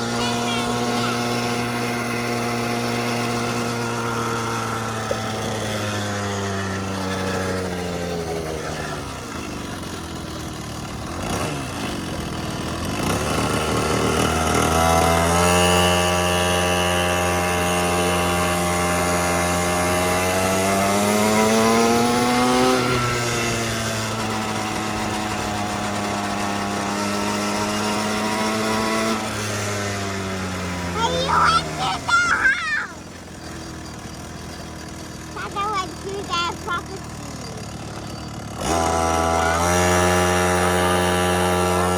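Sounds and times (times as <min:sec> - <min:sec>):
small petrol engine revving: 0:00.0 - 0:41.9.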